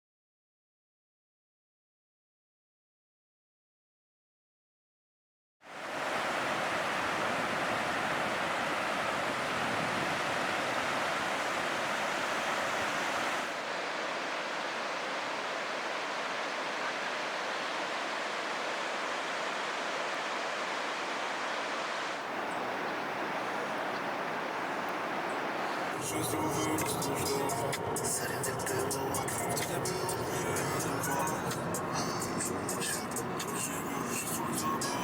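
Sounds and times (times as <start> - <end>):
waves breaking: 5.7 - 35.0.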